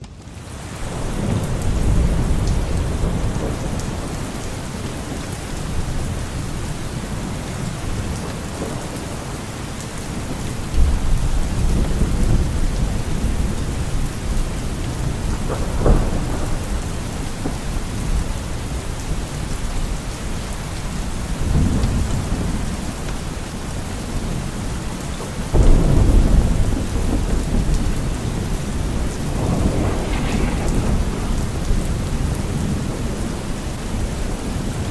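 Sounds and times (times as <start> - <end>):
steady rain: 0.0 - 34.9
rolling thunder: 0.7 - 23.0, 25.5 - 34.9.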